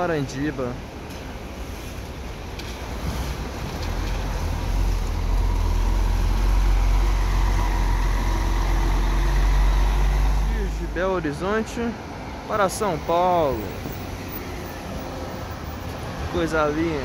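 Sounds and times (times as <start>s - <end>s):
coach diesel engine rumbling: 0.1s - 17.0s.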